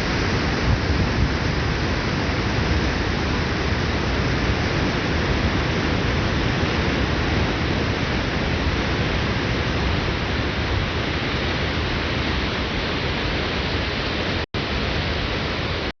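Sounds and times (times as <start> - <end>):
water rushing through dam: 0.0 - 15.9.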